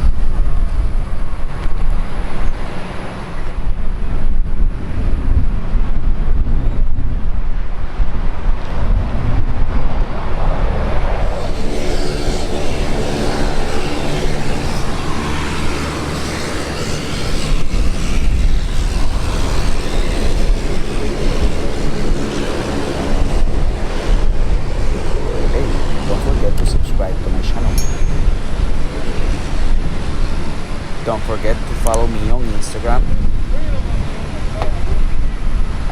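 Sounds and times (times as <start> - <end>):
aircraft engines roaring: 0.0 - 35.9
wind rumble on microphone: 0.0 - 35.9.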